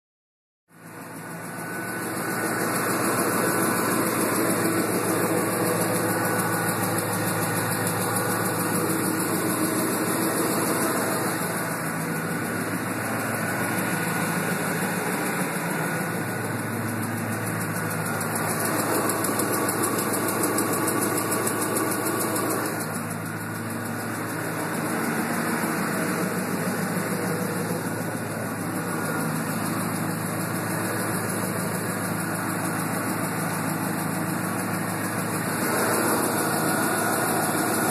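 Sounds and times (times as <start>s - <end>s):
engine idling with ticking: 0.7s - 37.9s.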